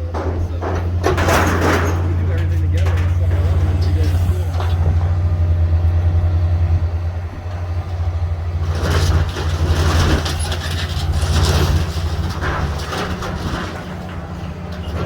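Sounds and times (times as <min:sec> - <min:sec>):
diesel engine running: 0:00.0 - 0:15.0
loud rough crackling: 0:00.0 - 0:15.0.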